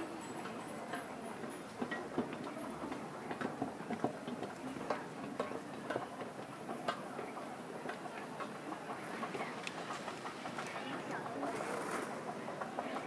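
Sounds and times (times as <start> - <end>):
hall background noise: 0.0 - 13.0.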